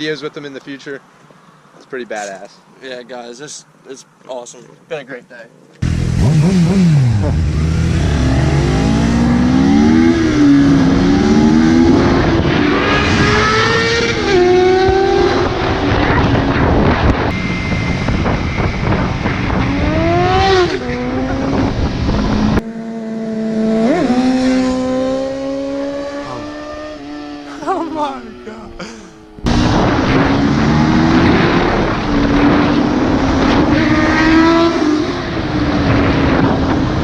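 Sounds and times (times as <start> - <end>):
vehicle engine revving: 5.8 - 27.8, 29.1 - 37.0.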